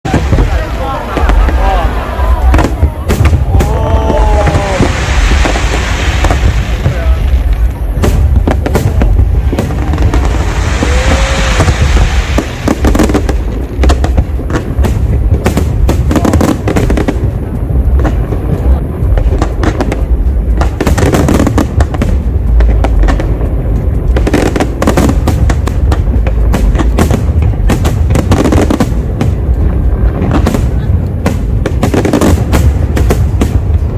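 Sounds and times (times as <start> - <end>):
fireworks bangs and crackles: 0.0 - 33.9
low rumble: 0.0 - 33.9.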